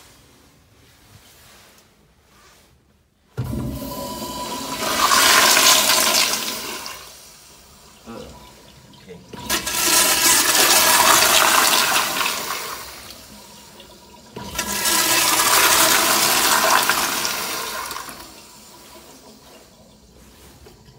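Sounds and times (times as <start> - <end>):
toilet flushing: 3.4 - 20.9.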